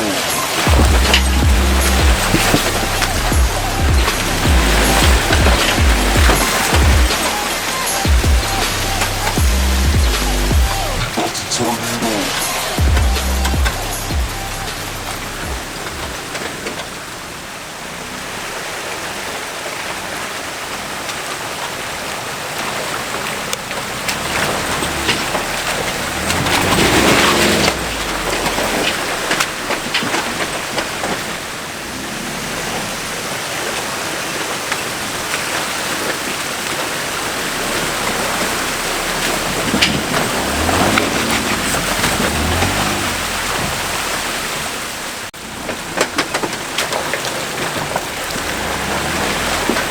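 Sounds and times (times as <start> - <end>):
car engine revving: 0.0 - 49.9
spray of mud and water: 0.0 - 49.9.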